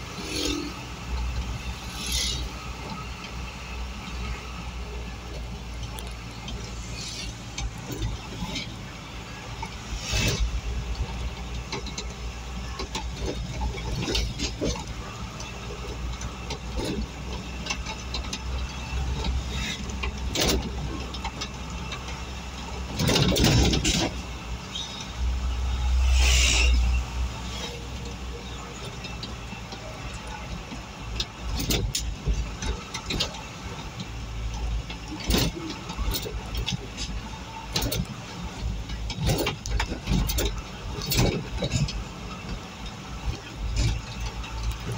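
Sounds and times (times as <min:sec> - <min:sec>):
vehicle engine and road noise: 0:00.0 - 0:44.9
rattles and knocks: 0:05.3 - 0:24.9, 0:27.9 - 0:44.9.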